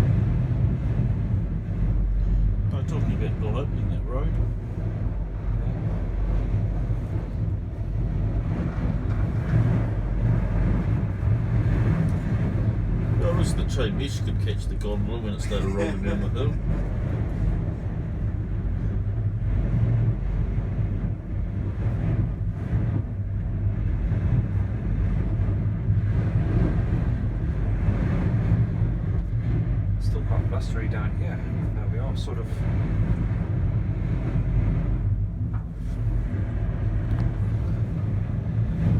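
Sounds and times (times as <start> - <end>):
gondola cabin rumble: 0.0 - 38.9
wind buffeting: 0.0 - 38.9.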